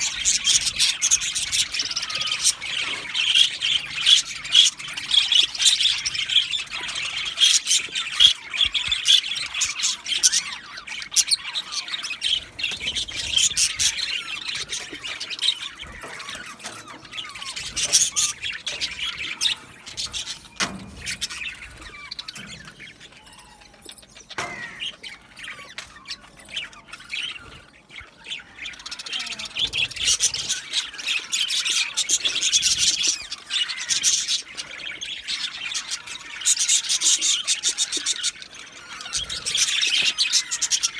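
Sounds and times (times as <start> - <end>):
budgerigars chattering and squawking: 0.0 - 40.9.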